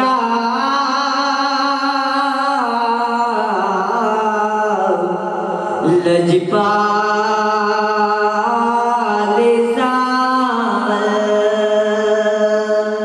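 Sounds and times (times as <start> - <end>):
man singing long notes: 0.0 - 13.0.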